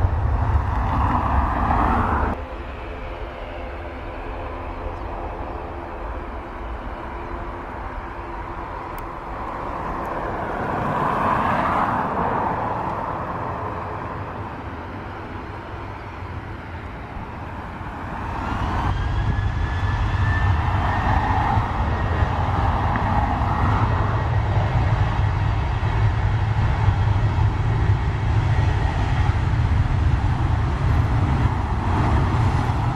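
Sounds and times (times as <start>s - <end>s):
jet engine spooling up whine: 0.0s - 32.9s
jet engines roaring: 0.0s - 32.9s.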